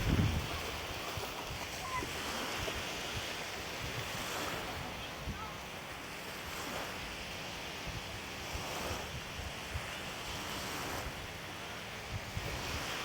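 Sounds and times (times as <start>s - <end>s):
wind buffeting microphone: 0.0s - 5.6s, 6.3s - 13.0s
lake waves washing: 0.0s - 13.0s.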